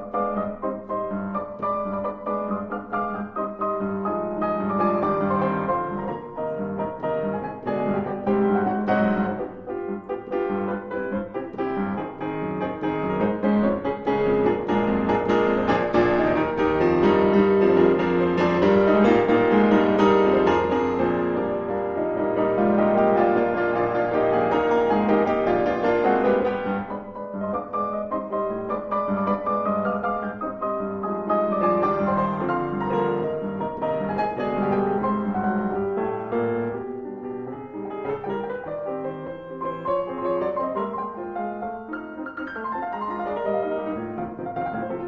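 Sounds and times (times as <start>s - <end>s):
classical grand piano: 0.0s - 45.0s.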